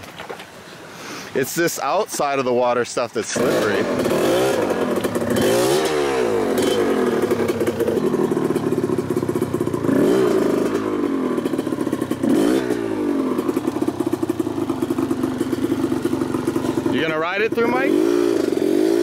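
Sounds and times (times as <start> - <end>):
dirt bike engine idling: 3.2 - 19.0
engine throttle blips: 3.2 - 19.0.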